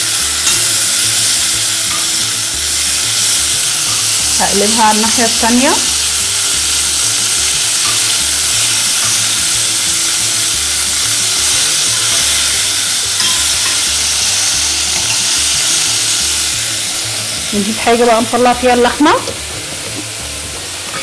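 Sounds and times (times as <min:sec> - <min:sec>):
beef sizzling in hot oil: 0:00.0 - 0:21.0.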